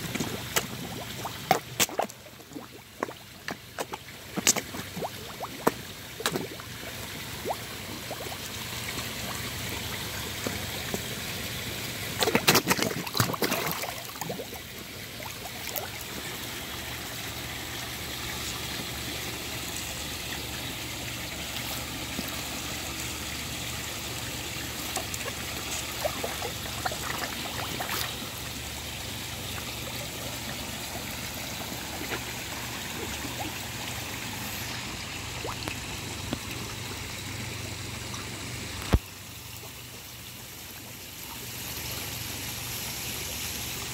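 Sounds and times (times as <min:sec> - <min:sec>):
fish splashing and slurping: 0:00.0 - 0:43.9
trickle of running water: 0:00.0 - 0:43.9.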